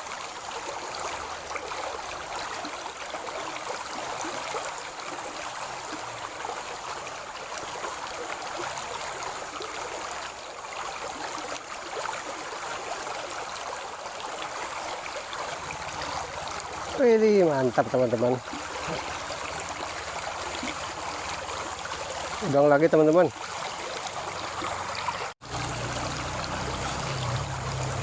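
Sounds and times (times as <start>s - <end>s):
stream rushing and trickling: 0.0s - 28.0s.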